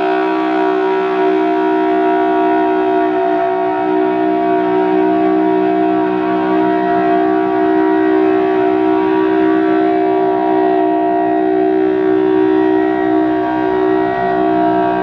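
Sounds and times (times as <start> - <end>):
civil defense siren steady chord: 0.0 - 15.0.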